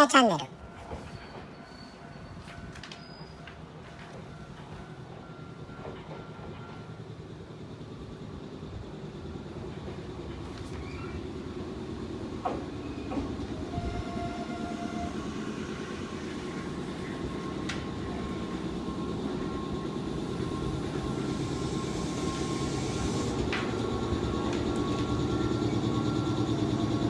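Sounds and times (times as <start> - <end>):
electric train rumbling on rails: 0.5 - 27.0.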